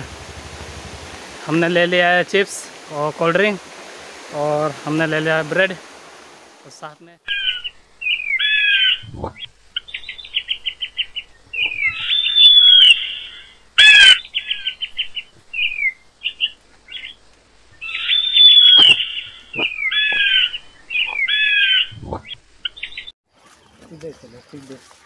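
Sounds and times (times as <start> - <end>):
songbirds calling: 0.0 - 25.0.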